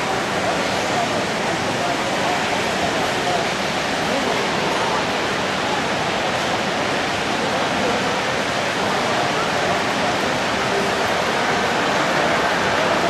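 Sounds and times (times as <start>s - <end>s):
crowded hall din: 0.0s - 13.0s.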